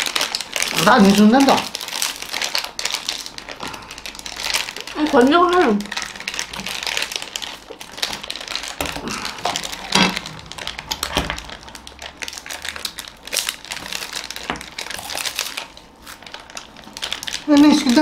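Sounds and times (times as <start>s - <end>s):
plastic wrappers crinkling: 0.0s - 18.0s.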